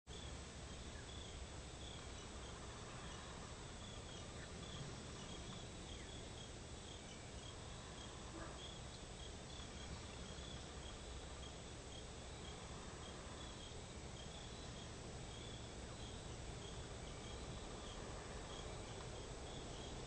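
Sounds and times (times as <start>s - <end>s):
insects chirping: 0.1s - 20.0s
low background hiss: 0.1s - 20.0s.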